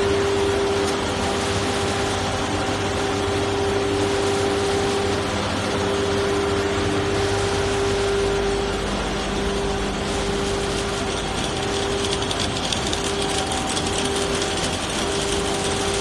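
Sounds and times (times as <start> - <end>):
constant whining tone: 0.0 - 16.0
paper slitting machine hum: 0.0 - 16.0.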